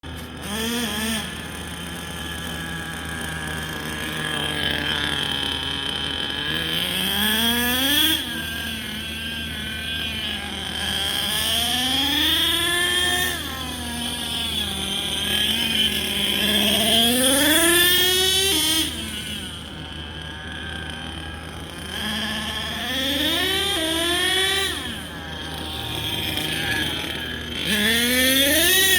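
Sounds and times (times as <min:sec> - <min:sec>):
engine revving: 0:00.0 - 0:28.9.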